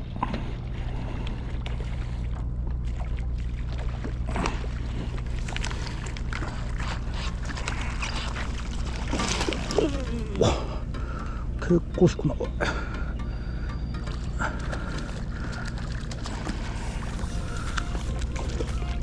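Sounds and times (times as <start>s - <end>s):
light water sounds: 0.0s - 19.0s
low engine hum: 0.0s - 19.0s.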